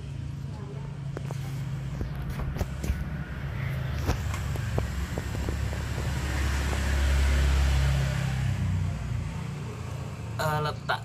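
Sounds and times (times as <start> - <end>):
low engine hum: 0.0 - 10.9.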